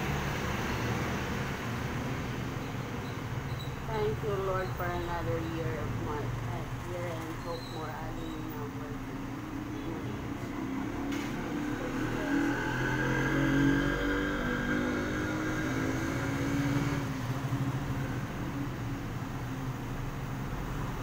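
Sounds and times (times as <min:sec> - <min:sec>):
motorcycle engines passing: 0:00.0 - 0:21.0.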